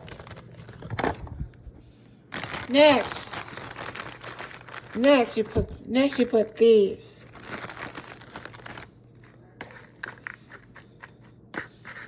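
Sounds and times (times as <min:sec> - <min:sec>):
packaging crinkling: 0:00.0 - 0:06.3, 0:07.2 - 0:11.0.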